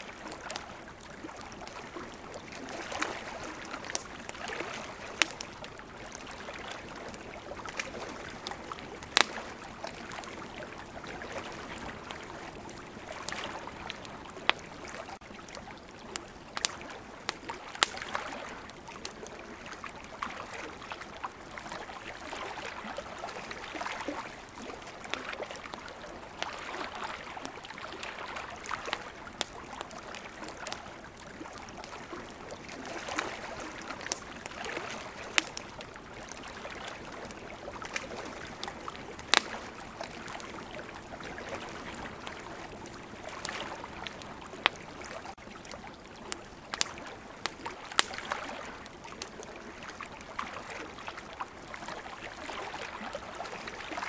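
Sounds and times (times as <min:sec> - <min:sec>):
ocean waves: 0:00.0 - 0:15.7, 0:16.6 - 0:45.4
campfire crackling and popping: 0:00.0 - 0:54.0.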